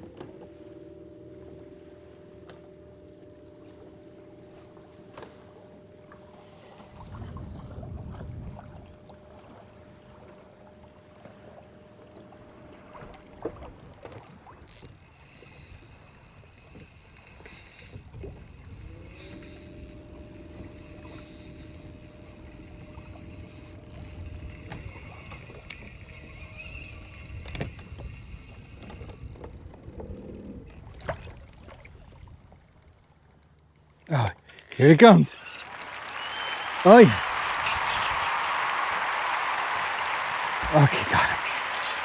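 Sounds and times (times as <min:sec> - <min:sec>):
electric boat motor whine: 0:00.0 - 0:33.9, 0:35.4 - 0:42.0
water lapping against hull: 0:00.0 - 0:34.8.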